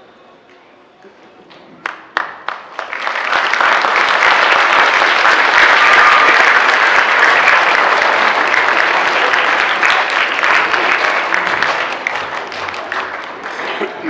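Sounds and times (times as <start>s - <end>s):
audience applauding: 1.8s - 14.0s.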